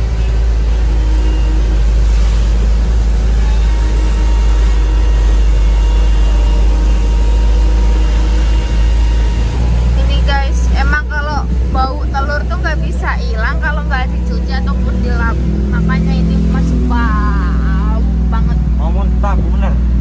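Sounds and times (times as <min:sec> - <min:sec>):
road noise: 0:00.0 - 0:20.0
truck engine rumble from cab: 0:00.0 - 0:20.0.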